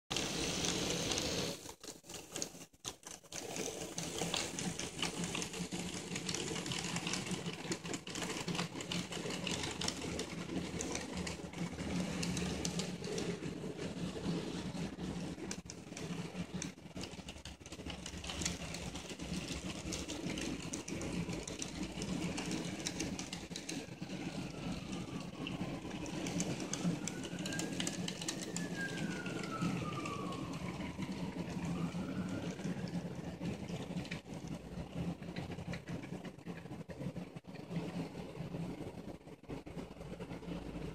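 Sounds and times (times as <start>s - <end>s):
model train humming: 0.1s - 40.9s.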